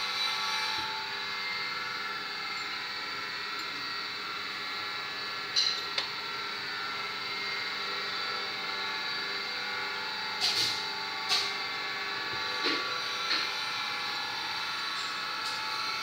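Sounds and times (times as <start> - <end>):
workshop machine hum: 0.0 - 16.0.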